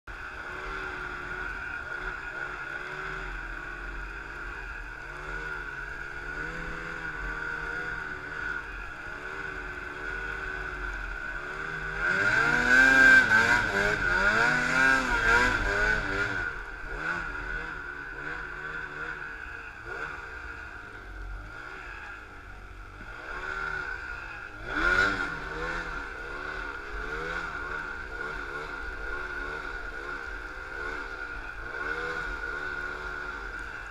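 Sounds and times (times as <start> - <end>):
snowmobile engine running: 0.1 - 33.9.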